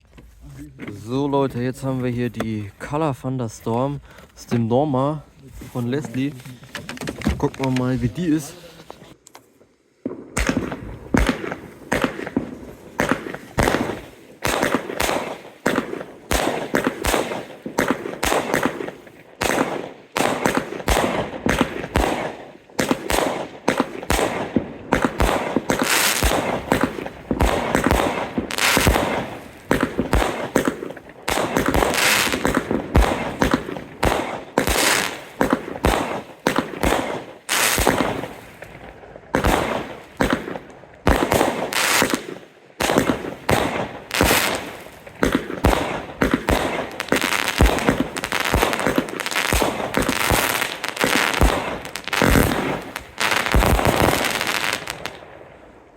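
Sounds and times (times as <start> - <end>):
firework crackling: 7.5 - 55.2
firework bangs: 10.0 - 55.6.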